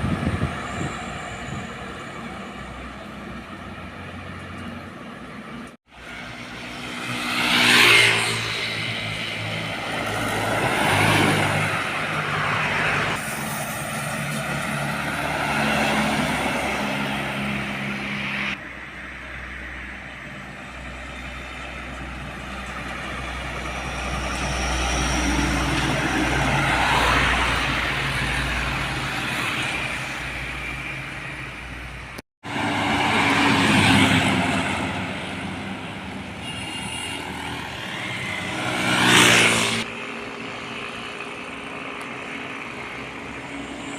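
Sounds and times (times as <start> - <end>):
heavy trucks passing: 0.0 - 43.9.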